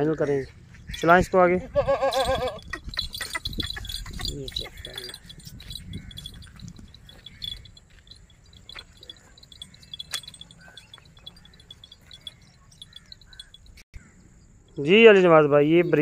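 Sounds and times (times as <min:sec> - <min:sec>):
crickets chirping: 0:00.8 - 0:16.0.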